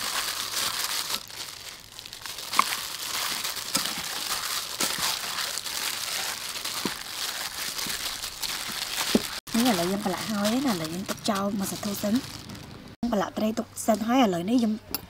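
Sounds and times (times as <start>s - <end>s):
plastic glove crinkling: 0.0s - 12.9s, 13.8s - 14.3s.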